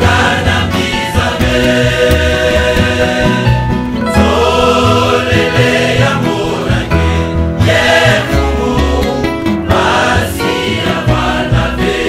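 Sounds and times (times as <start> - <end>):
bass line: 0.0 - 11.9
choir singing gospel: 0.0 - 12.0.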